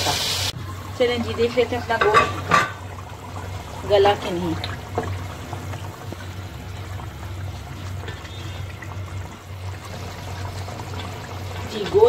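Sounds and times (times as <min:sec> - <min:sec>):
broth bubbling in a pot: 0:00.0 - 0:12.0
low steady hum: 0:00.5 - 0:12.0.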